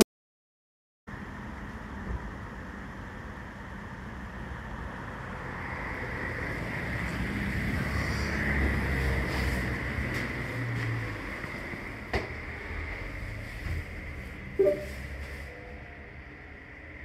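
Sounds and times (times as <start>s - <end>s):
rushing noise with low rumble: 1.1s - 17.0s.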